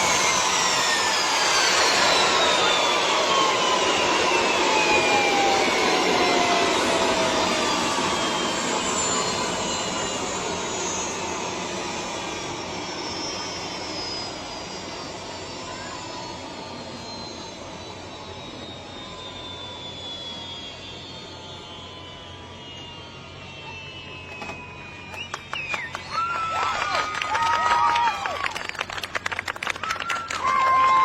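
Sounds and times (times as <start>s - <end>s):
whining tones sliding down: 0.0s - 28.2s
jet engine rushing: 0.0s - 29.5s.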